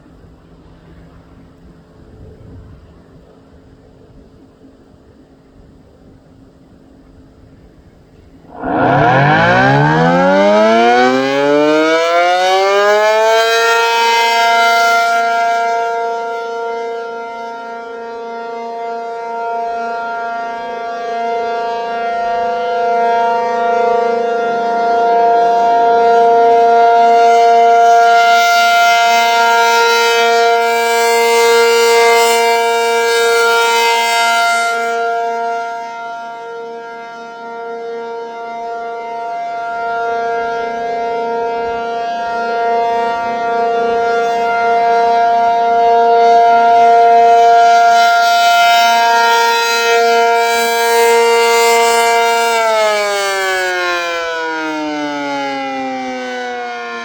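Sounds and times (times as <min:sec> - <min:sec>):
tornado siren wailing: 0:08.4 - 0:57.0.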